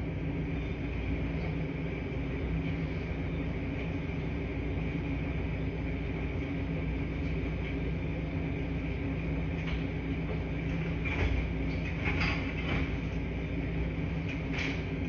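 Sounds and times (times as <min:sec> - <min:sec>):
washing machines humming: 0:00.0 - 0:15.0.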